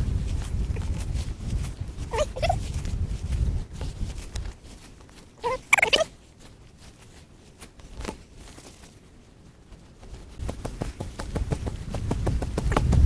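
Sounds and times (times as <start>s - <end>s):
stick digging in sandy soil: 0.0s - 13.0s.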